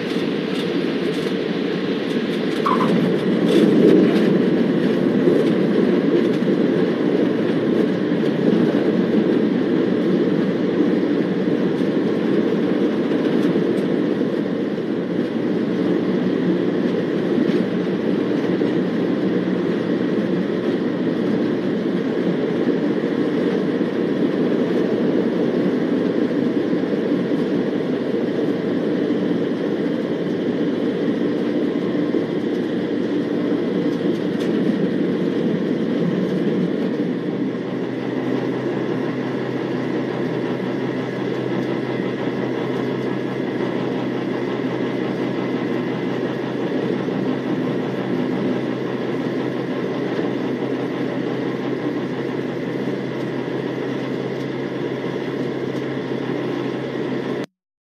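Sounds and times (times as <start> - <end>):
aircraft engine and propeller: 0.0 - 57.5.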